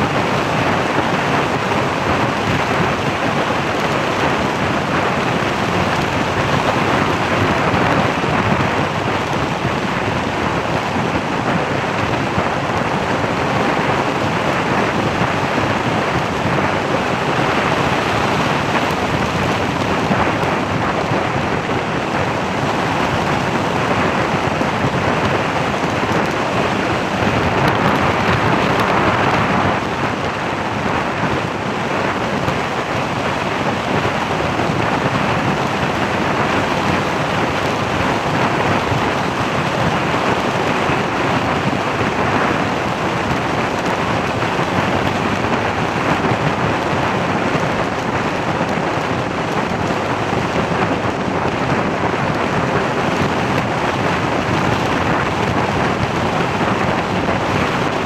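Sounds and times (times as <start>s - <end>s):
wind and road noise from vehicle: 0.0s - 58.0s.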